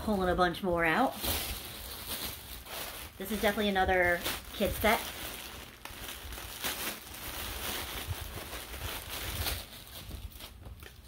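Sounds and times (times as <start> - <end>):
plastic bag crinkling: 0.0 - 11.0
fabric rustling: 1.0 - 10.6.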